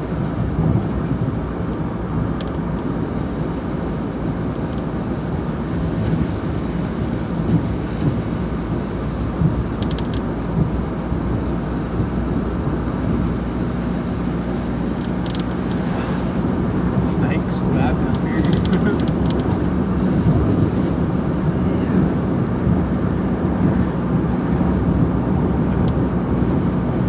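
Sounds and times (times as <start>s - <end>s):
low engine hum: 0.0s - 27.0s
tyre noise on wet pavement: 0.0s - 27.0s.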